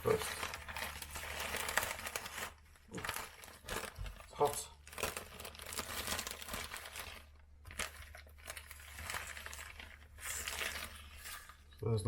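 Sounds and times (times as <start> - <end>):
plastic bags crinkling: 0.0 - 11.9.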